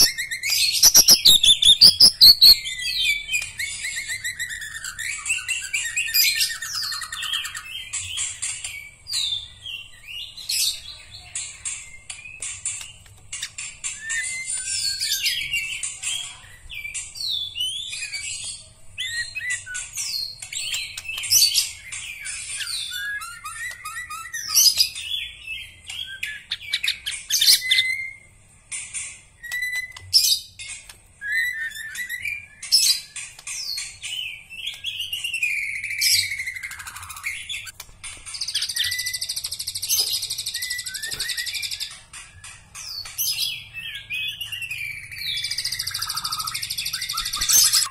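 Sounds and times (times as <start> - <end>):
bird singing whistled song: 0.0 - 10.8, 14.0 - 15.8, 16.6 - 28.3, 31.2 - 33.2, 34.0 - 37.8, 38.4 - 47.9.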